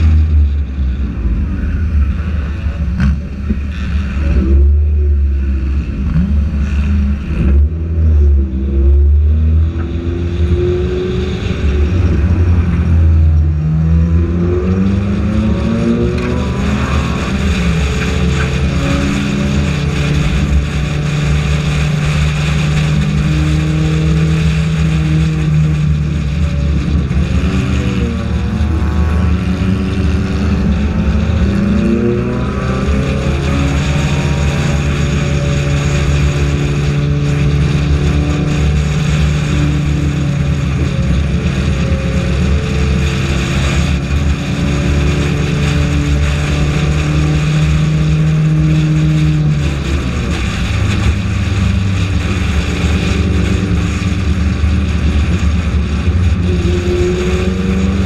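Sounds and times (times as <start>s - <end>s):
race car engine at high revs: 0.0s - 58.0s
road noise: 0.0s - 58.0s.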